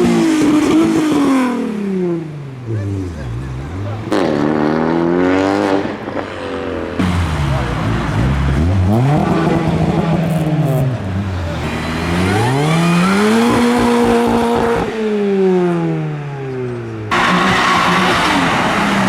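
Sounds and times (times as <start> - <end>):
car engine revving and passing: 0.0 - 19.0.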